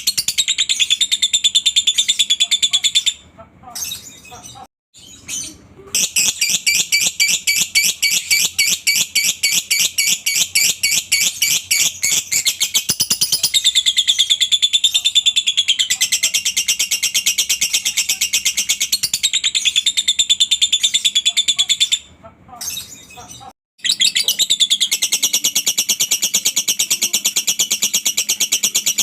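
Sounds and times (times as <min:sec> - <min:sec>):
lovebird chattering: 0:00.0 - 0:03.2, 0:03.8 - 0:29.0.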